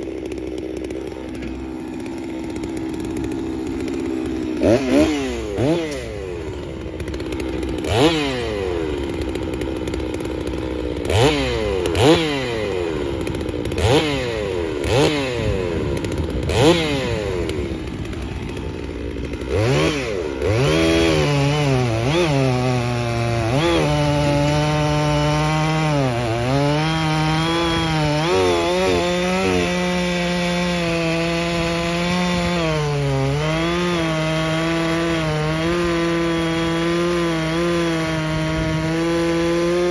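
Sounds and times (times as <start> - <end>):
chainsaw cutting log: 0.0 - 39.9
chainsaw idling and revving: 0.0 - 39.9.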